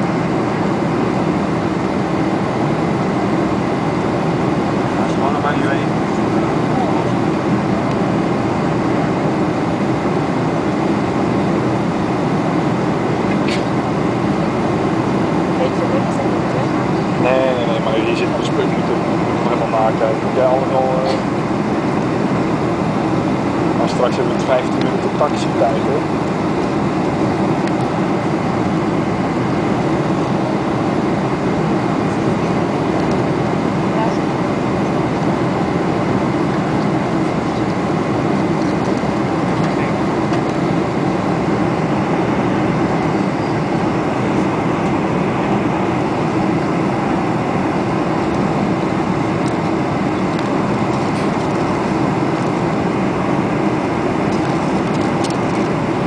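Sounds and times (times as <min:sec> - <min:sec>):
air rushing along fuselage: 0:00.0 - 0:56.0
jet engines droning: 0:00.0 - 0:56.0.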